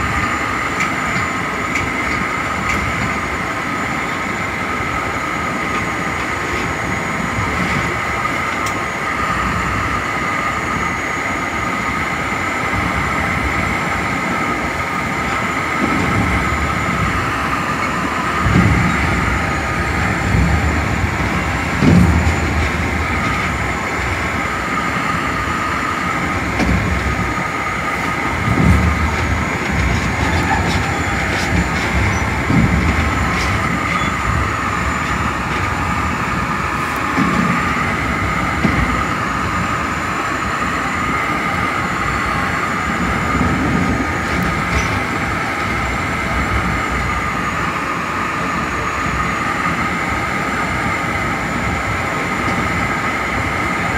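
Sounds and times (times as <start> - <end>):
high steady whine: 0.0 - 53.9
train rolling rumble: 0.0 - 53.9.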